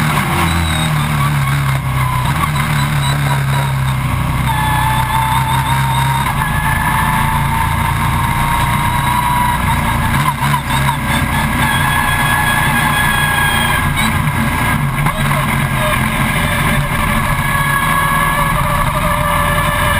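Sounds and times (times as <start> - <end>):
race car engine running: 0.0 - 19.9.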